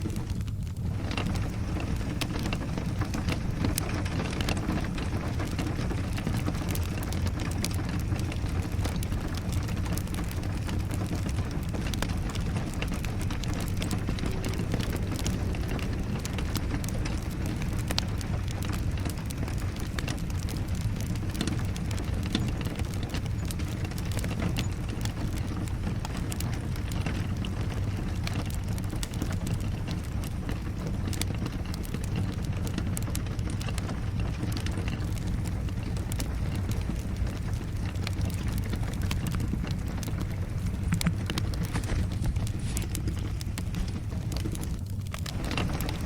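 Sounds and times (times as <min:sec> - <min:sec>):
log fire crackling and popping: 0:00.0 - 0:46.0
low rumble: 0:00.0 - 0:46.0
rain falling: 0:00.0 - 0:46.0.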